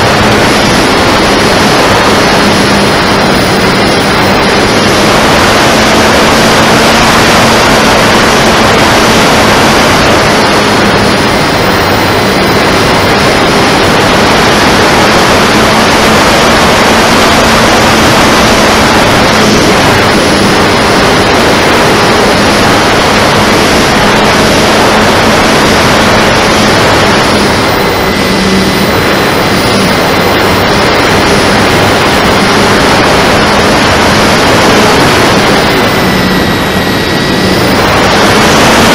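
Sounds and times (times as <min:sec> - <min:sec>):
propeller hum: 0:00.0 - 0:38.9
wind rushing over microphone: 0:00.0 - 0:38.9.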